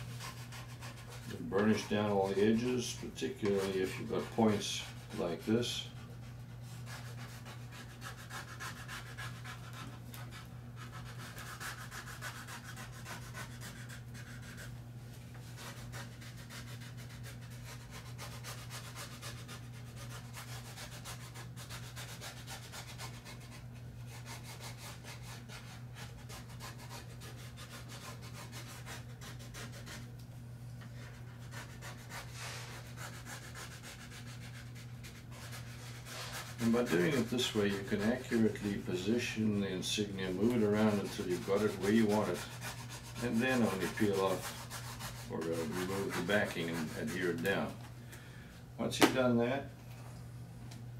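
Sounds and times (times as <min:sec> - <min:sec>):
squeegee scratching on decal: 0:00.0 - 0:14.8, 0:15.4 - 0:30.1, 0:31.0 - 0:47.8.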